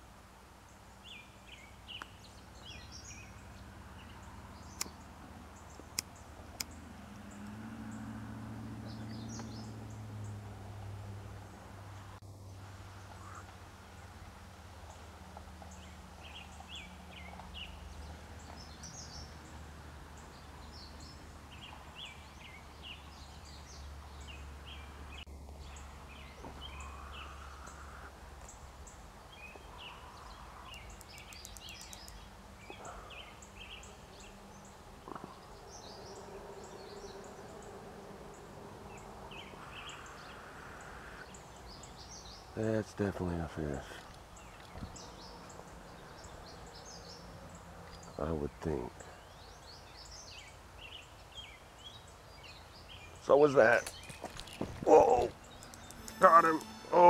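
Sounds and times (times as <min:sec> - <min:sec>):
birds chirping: 0:00.7 - 0:14.2, 0:14.9 - 0:57.0.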